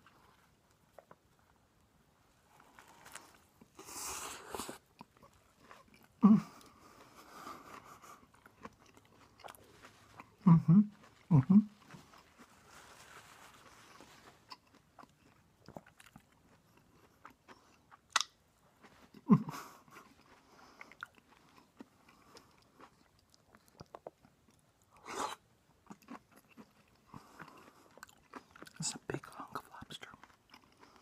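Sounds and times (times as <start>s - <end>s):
person chewing food: 0.0s - 1.8s, 2.4s - 31.0s.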